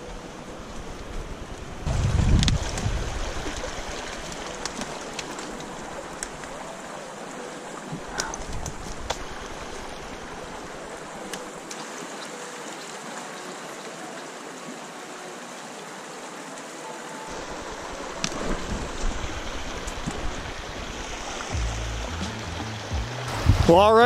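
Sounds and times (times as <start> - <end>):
creek running over rocks: 0.0 - 24.0.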